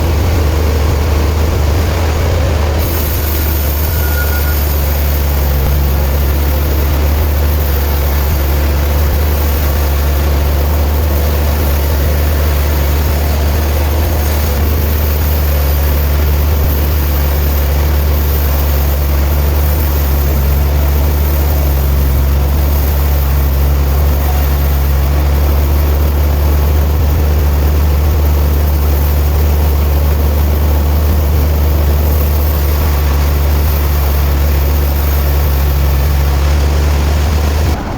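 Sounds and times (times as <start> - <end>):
sawmill machinery droning: 0.0 - 37.9.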